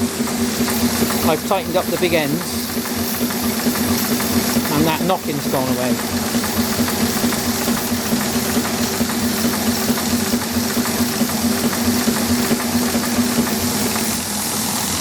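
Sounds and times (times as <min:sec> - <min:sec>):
steam engine ticking: 0:00.0 - 0:14.2
electric blower humming: 0:00.0 - 0:15.0
steam hiss: 0:00.0 - 0:15.0.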